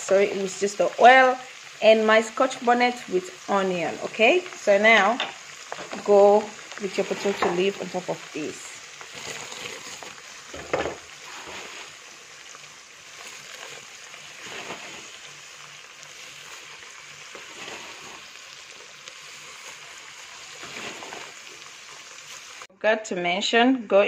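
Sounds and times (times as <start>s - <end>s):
oil sizzling in a pot: 0.0s - 22.7s.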